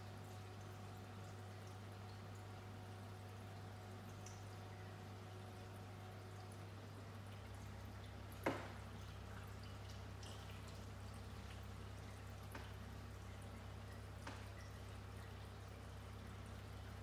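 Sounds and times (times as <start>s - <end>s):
low pump hum: 0.0s - 17.0s
water trickling and dripping: 0.0s - 17.0s.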